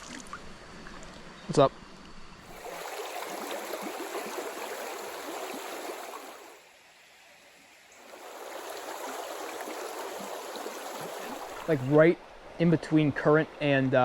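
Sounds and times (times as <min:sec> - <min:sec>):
creek water running over riffle: 0:02.5 - 0:14.0.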